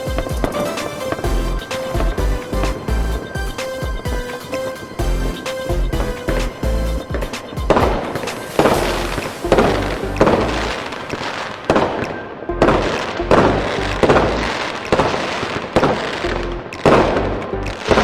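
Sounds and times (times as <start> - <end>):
fireworks booming: 0.0 - 18.0
music playing: 0.0 - 18.0.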